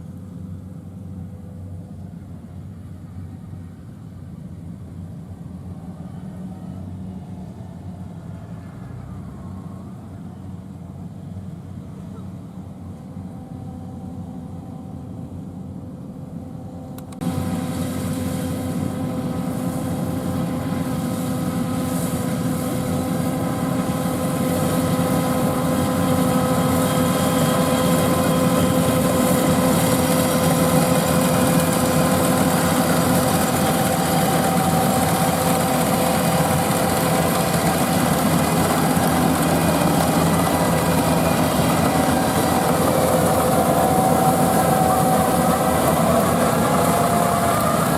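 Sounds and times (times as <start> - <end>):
combine harvester diesel engine: 0.0 - 47.9.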